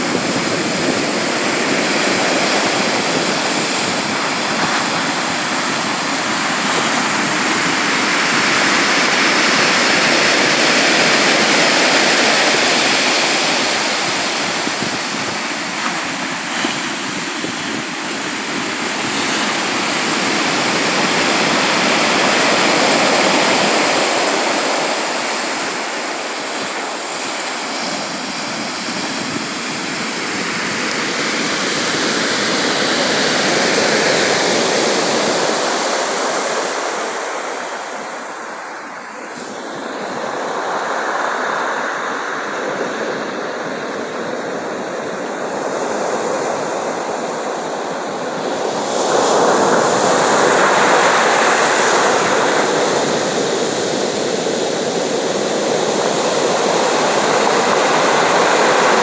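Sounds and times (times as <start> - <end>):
breaking sea waves: 0.0 - 59.0.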